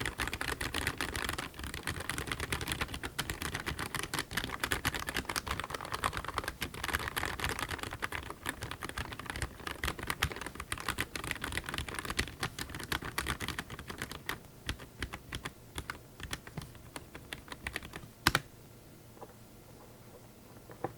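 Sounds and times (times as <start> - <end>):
mechanical keyboard typing: 0.0 - 18.5.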